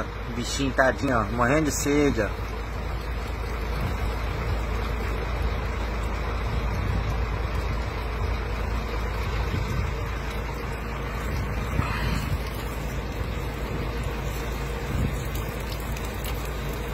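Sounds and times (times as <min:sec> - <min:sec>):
truck engine idling: 0:00.0 - 0:16.9
water from hose splashing: 0:00.0 - 0:16.9.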